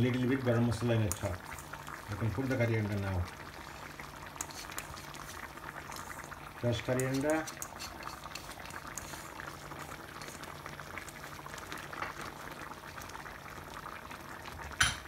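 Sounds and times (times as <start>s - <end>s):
sauce bubbling in a pan: 0.0s - 15.0s.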